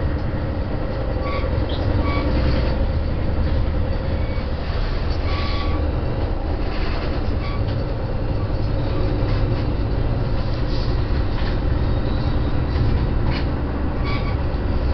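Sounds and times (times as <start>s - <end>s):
train rumbling in motion: 0.0s - 14.9s.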